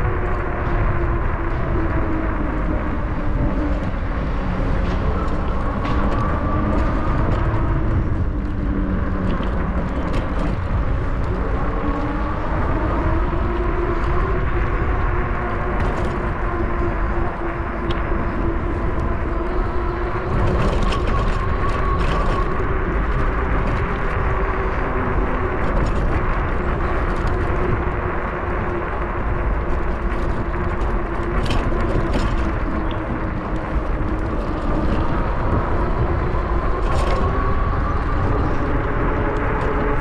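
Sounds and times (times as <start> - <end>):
bicycle tyres on pavement: 0.0 - 40.0
steady whine: 0.0 - 40.0
wind on microphone: 0.0 - 40.0.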